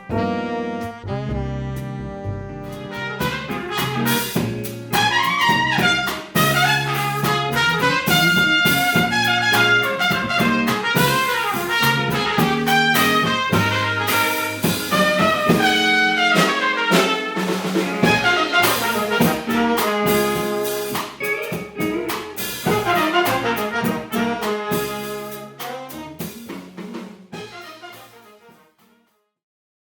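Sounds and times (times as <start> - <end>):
jazz ensemble playing: 0.0 - 29.0.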